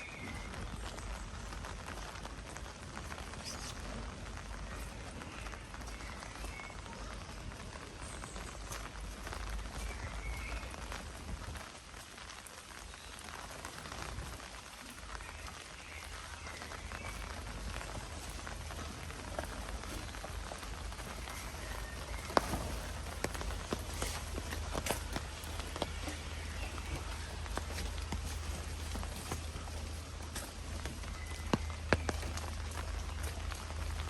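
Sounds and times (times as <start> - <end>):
rain drops ticking on surfaces: 0.0 - 34.0.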